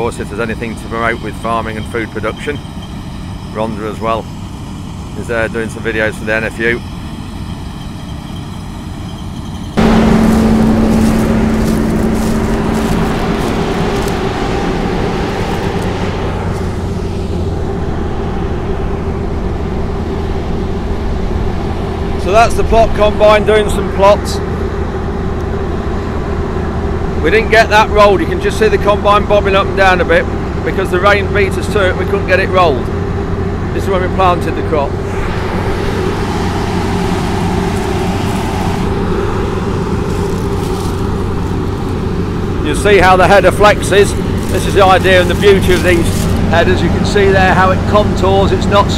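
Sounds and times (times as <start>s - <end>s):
combine harvester engine hum: 0.0s - 48.9s.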